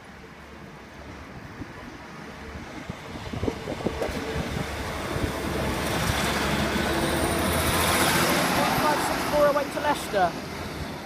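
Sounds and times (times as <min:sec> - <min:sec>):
diesel train engine hum: 0:00.0 - 0:11.0
wheel-on-rail noise: 0:01.8 - 0:11.0.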